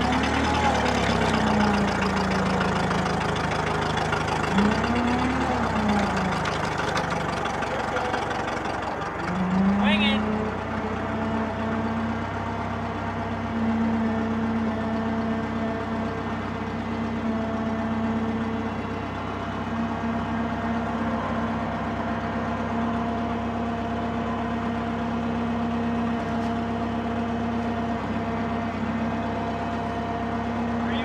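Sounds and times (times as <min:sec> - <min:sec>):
crane engine whining: 0:00.0 - 0:31.0.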